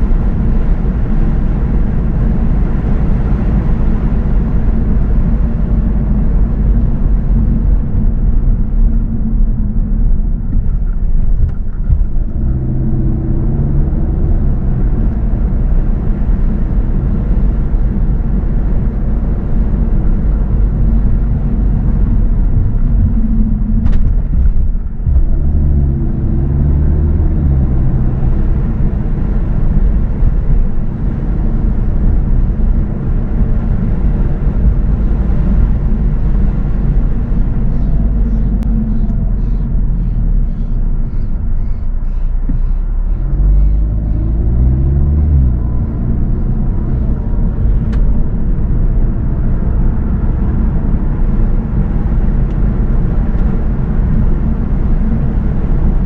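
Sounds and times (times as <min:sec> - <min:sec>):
low hum: 0:00.0 - 0:56.0
road and wind noise rumble: 0:00.0 - 0:56.0.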